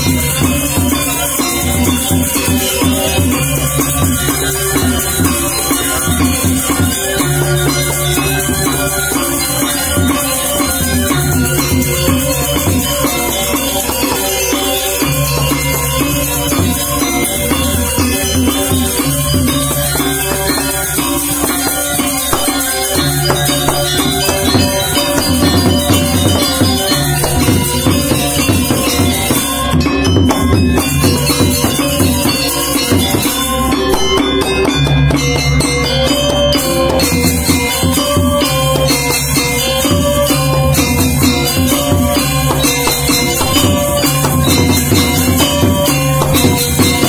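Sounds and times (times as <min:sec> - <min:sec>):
drums: 0:00.0 - 0:47.0
metallophones ringing: 0:00.0 - 0:47.0.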